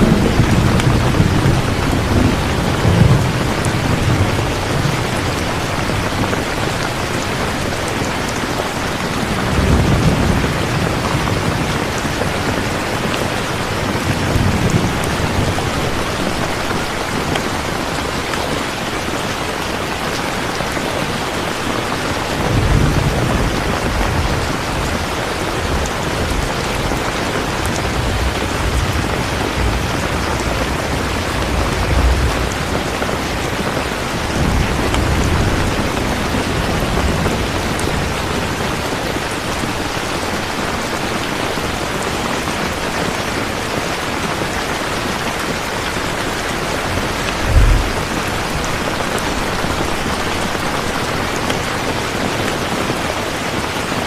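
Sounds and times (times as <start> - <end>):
thunder rumbling: 0.0 - 42.0, 43.9 - 52.7
heavy rain: 0.0 - 54.0.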